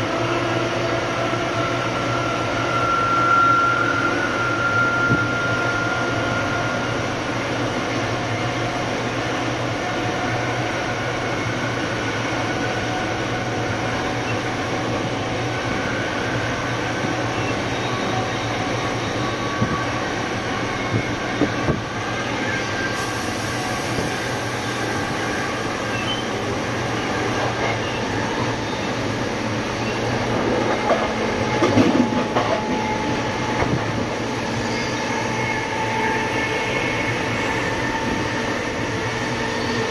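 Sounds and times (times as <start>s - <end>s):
diesel locomotive engine droning: 0.0s - 39.9s.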